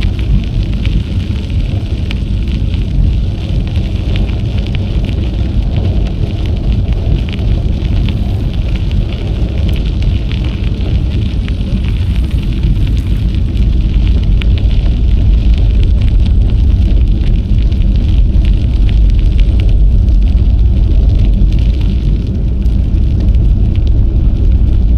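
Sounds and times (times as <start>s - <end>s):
small crackles and ticks: 0.0s - 24.9s
wind buffeting microphone: 0.0s - 24.9s.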